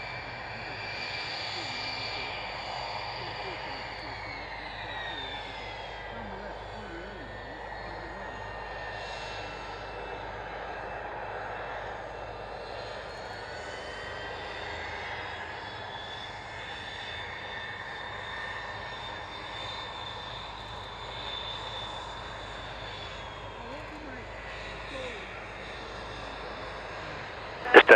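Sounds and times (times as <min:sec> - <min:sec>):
aircraft engine running: 0:00.0 - 0:27.9.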